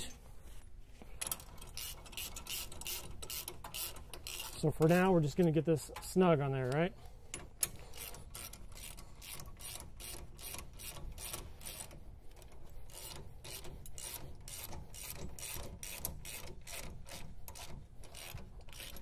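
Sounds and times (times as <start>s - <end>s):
ratchet wrench clicking: 1.2s - 6.1s, 7.3s - 19.0s.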